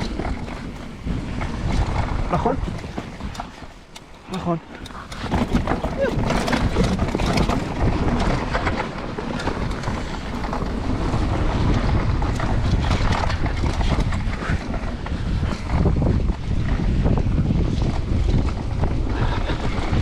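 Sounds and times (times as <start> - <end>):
tyres rumbling on dirt: 0.0 - 16.2
bike clattering over bumps: 0.0 - 17.2
wind buffeting microphone: 0.0 - 20.0.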